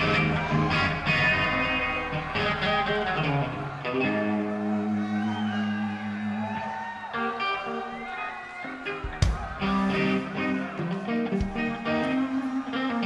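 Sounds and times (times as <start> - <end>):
rock band with loud guitars: 0.0 - 13.0.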